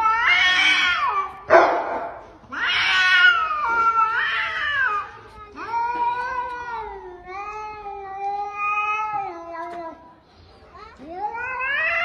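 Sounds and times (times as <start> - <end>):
cat yowling: 0.0 - 10.0, 11.2 - 12.0.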